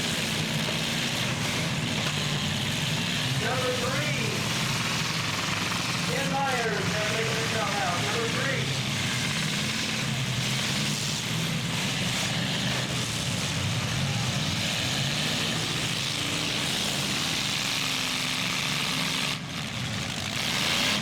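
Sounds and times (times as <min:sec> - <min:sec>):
truck engines running: 0:00.0 - 0:21.0.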